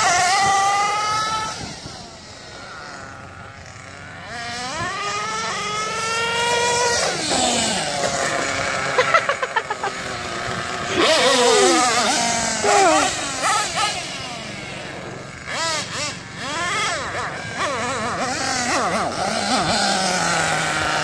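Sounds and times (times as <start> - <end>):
nitro rc engine revving: 0.0 - 21.0.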